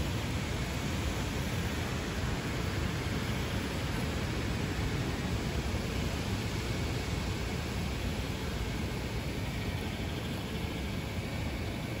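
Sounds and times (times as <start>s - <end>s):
rushing rumble over sandy ground: 0.0s - 12.0s.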